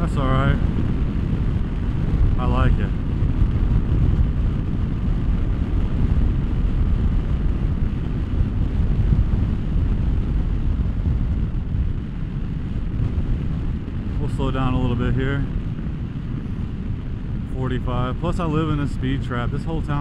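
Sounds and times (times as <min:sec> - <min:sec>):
motorcycle engine running: 0:00.0 - 0:20.0
wind rush on microphone: 0:00.0 - 0:20.0.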